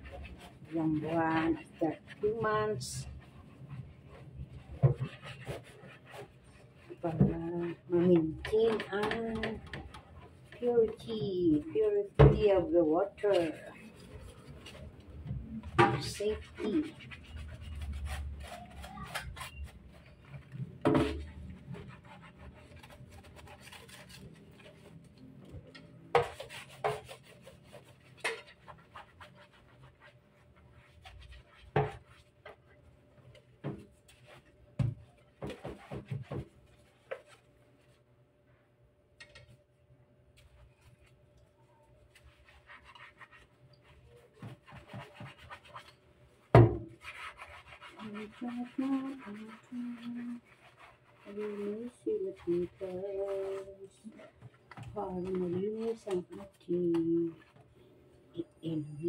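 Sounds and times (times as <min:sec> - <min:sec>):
sponge scrubbing plastic: 0:00.0 - 0:38.1, 0:40.2 - 0:59.0.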